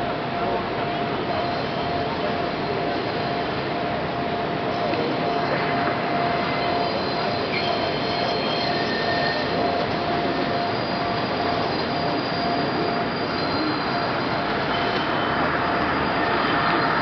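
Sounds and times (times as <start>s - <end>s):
subway train rumble: 0.0s - 17.0s
train wheels squealing: 1.3s - 3.4s, 5.2s - 17.0s.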